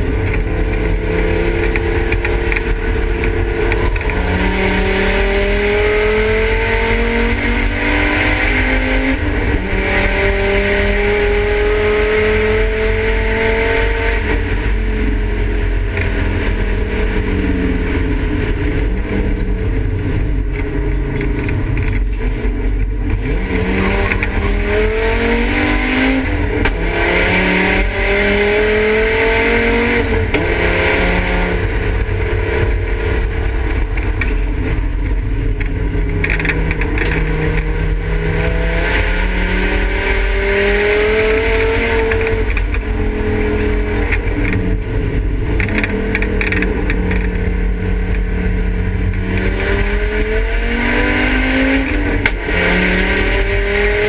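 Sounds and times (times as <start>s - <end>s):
race car engine accelerating: 0.0s - 54.0s
road and wind noise: 0.0s - 54.0s.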